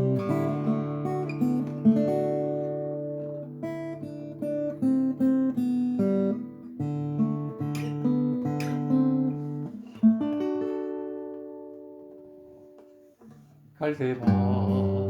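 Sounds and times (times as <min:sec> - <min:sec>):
acoustic guitar ballad: 0:00.0 - 0:15.0.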